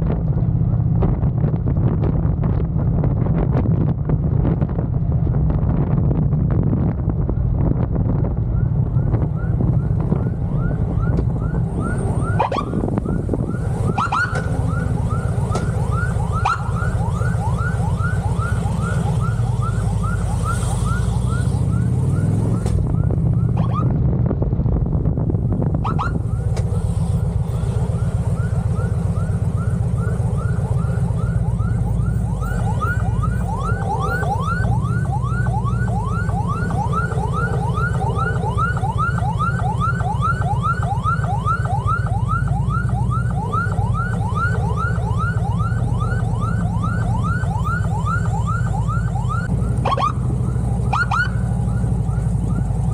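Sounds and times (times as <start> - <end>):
motorcycle engine rumble: 0.0 - 52.9
wind: 0.0 - 52.9
police siren yelping: 8.5 - 24.0, 25.8 - 52.9.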